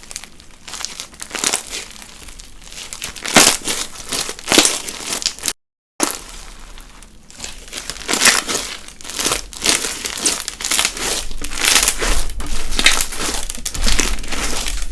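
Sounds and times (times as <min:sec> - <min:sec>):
bead slime crunching: 0:00.0 - 0:14.9.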